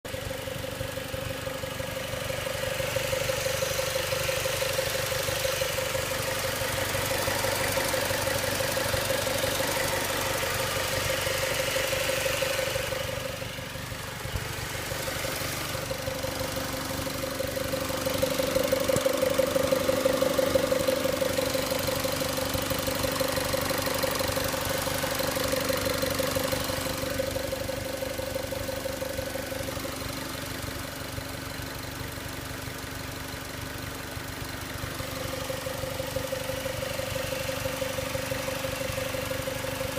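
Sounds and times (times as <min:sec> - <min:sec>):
car engine idling with clicking: 0:00.0 - 0:39.9.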